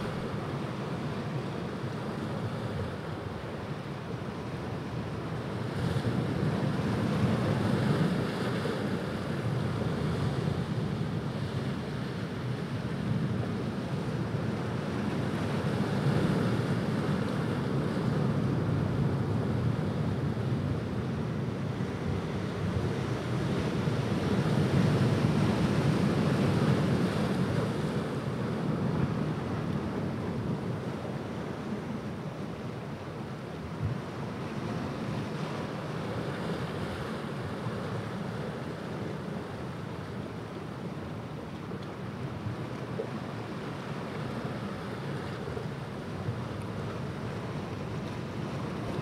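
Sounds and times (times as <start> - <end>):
ocean waves breaking on beach: 0.0 - 49.0.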